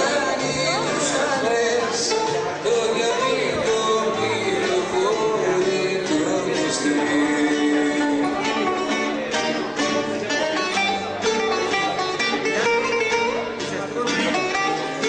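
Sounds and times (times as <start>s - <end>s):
acoustic guitar: 0.0s - 15.0s
plucked lute-type instrument: 0.0s - 15.0s.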